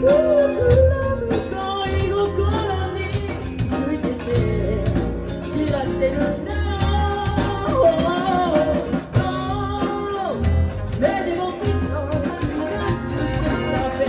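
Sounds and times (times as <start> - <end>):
bass and drums: 0.0 - 14.0
guitar: 0.0 - 14.0
person singing: 0.0 - 14.0.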